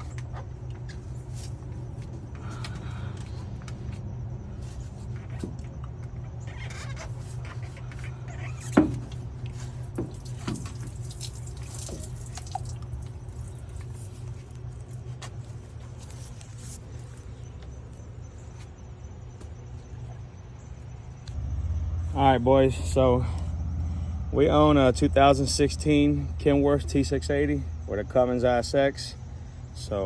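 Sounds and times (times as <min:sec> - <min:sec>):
fuel dripping and trickling: 0:00.0 - 0:28.0
low hum: 0:00.0 - 0:29.8.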